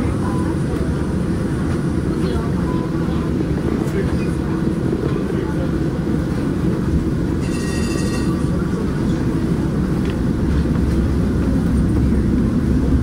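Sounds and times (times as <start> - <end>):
streetcar rumbling on track: 0.0 - 13.0.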